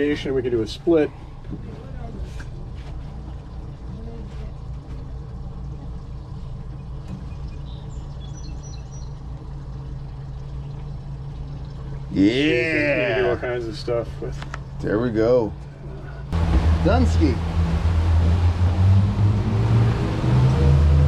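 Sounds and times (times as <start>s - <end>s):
outboard engines idling: 0.0s - 21.0s.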